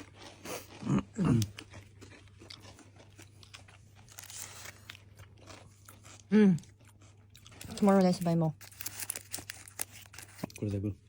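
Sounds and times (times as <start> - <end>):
person chewing crispy pastry: 0.0 - 11.0.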